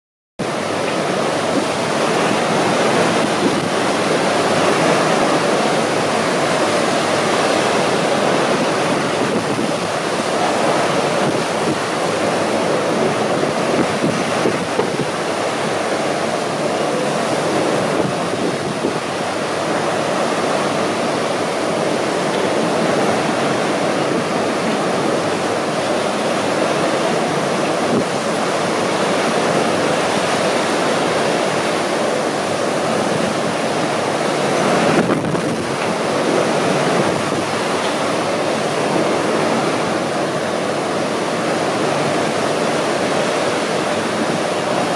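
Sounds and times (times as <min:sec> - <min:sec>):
strong wind rushing: 0:00.4 - 0:44.9.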